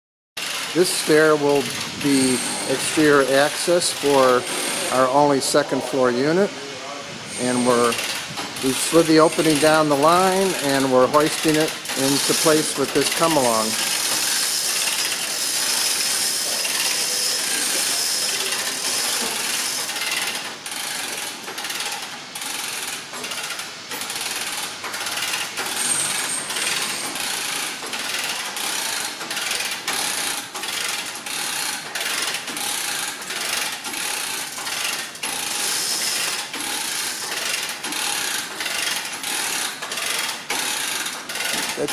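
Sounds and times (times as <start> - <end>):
chain hoist ratcheting: 0.4 - 6.4, 7.3 - 41.9.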